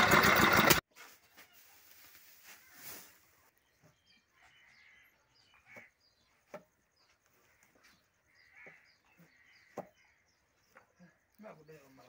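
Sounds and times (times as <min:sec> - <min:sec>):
faint bird chirps: 0:01.0 - 0:12.0.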